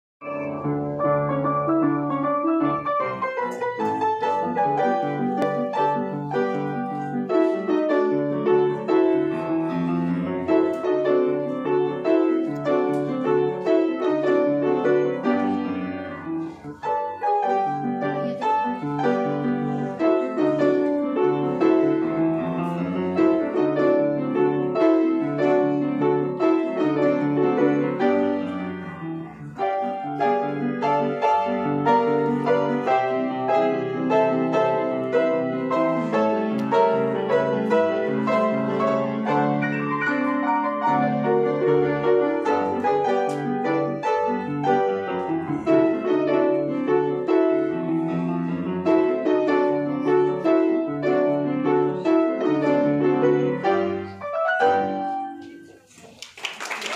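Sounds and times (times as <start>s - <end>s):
grand piano playing fast notes: 0.2s - 55.9s.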